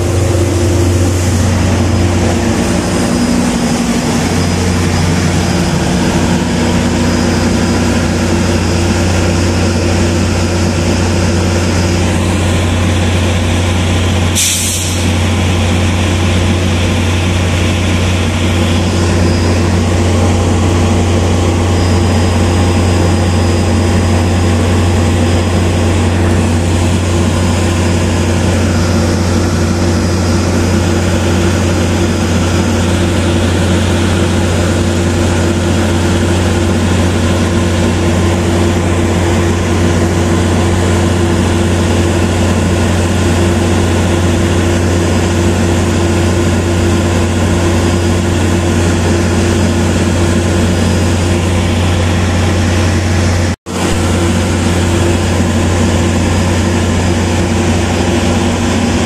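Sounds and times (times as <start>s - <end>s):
train diesel engine droning: 0.0s - 59.0s.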